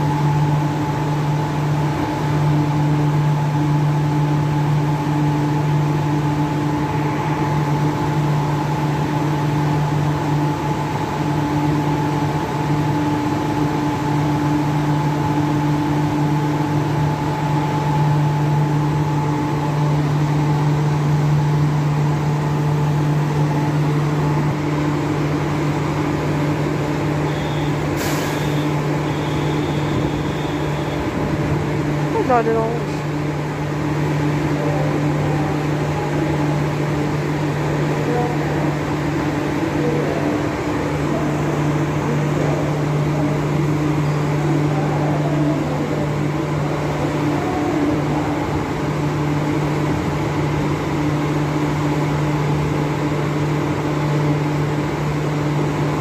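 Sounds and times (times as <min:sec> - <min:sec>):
train air conditioning hum: 0:00.0 - 0:56.0.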